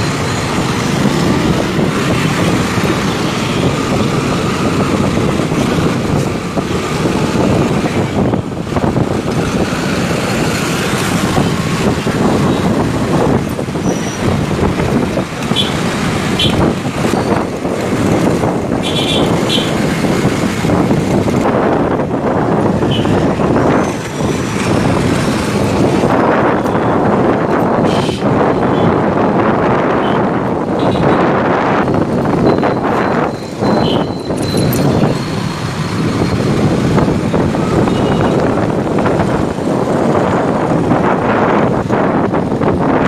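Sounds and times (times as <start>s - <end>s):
motorbike engine and road noise: 0.0s - 43.0s.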